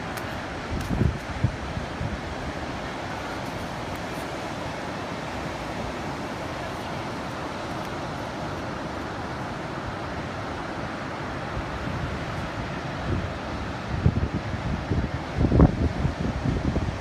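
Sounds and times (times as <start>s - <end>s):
wind on microphone: 0.0s - 8.8s, 11.5s - 17.0s
ocean surf washing onto beach: 0.0s - 17.0s.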